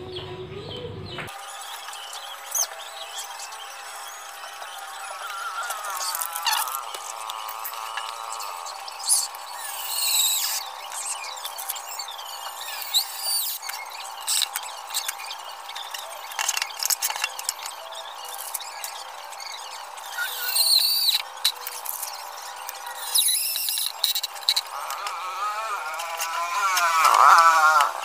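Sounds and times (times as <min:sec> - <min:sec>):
high squeaks: 0:01.4 - 0:28.0.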